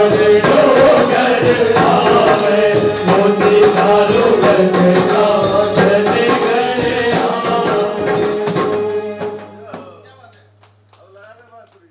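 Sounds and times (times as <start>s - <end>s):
group singing folk song: 0.0s - 9.7s
jingling hand percussion: 0.0s - 9.9s.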